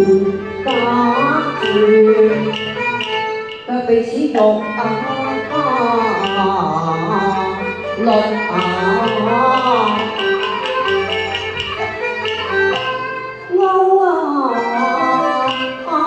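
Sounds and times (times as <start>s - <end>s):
bowed fiddle melody: 0.0s - 16.0s
traditional ensemble with bass: 0.0s - 16.0s.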